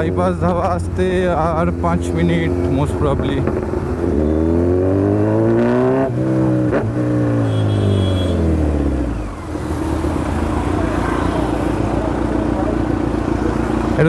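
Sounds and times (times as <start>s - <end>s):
motorcycle engine: 0.0s - 14.0s
road and wind noise: 0.0s - 14.0s.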